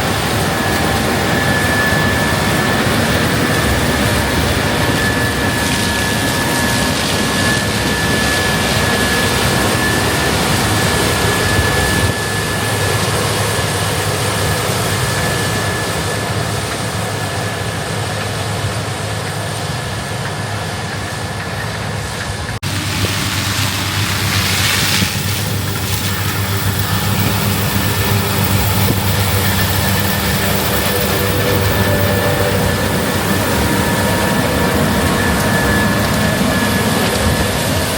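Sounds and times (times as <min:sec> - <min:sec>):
combine harvester drone: 0:00.0 - 0:37.9
high machine whine: 0:00.0 - 0:37.9.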